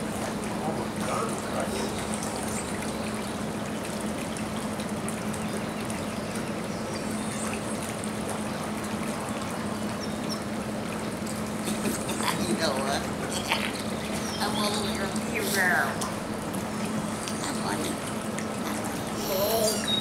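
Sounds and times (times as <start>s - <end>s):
constant low hum: 0.0s - 20.0s
water trickling: 0.0s - 20.0s.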